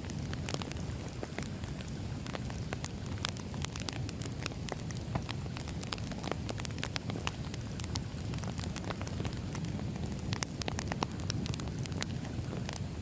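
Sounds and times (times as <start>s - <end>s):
low rumble of fire: 0.0s - 13.0s.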